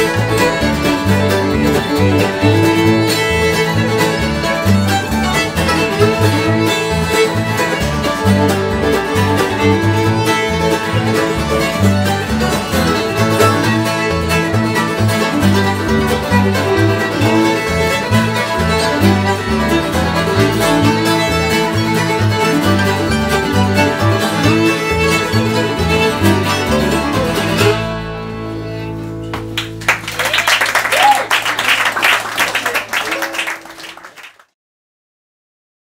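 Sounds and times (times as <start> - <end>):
acoustic bluegrass band: 0.0 - 34.3.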